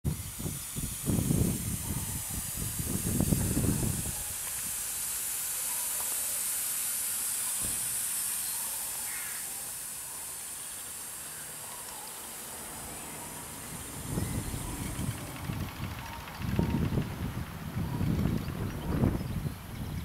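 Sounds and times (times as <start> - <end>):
steam hissing: 0.1 - 20.0.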